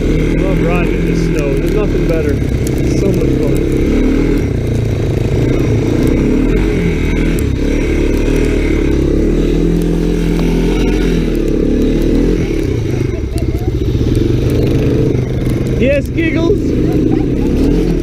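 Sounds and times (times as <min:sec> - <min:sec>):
dirt bike engine running: 0:00.0 - 0:18.0
scattered clicks: 0:00.0 - 0:18.0.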